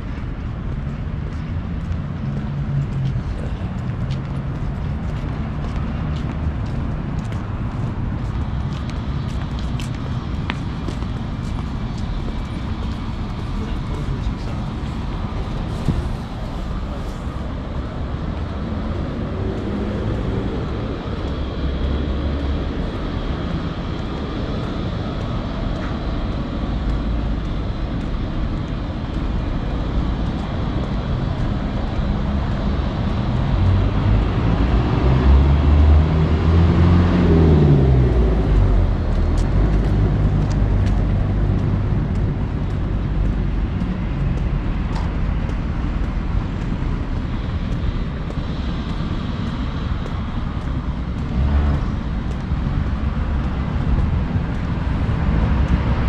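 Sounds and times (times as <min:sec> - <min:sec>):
street traffic noise: 0:00.0 - 0:56.0.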